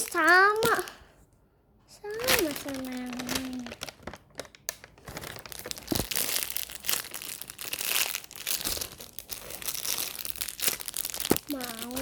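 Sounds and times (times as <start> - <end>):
plastic bags crinkling: 0.0 - 1.0, 2.0 - 12.0.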